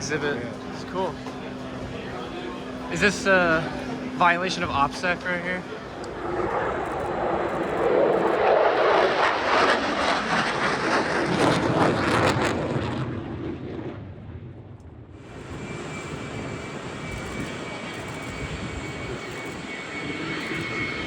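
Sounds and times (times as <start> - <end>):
fighter jet flying past: 0.0 - 21.0.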